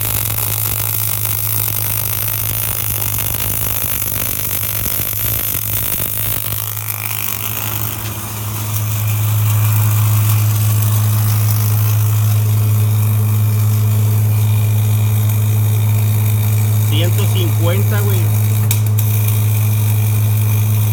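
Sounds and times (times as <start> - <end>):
electrical hum of shop equipment: 0.0 - 20.9.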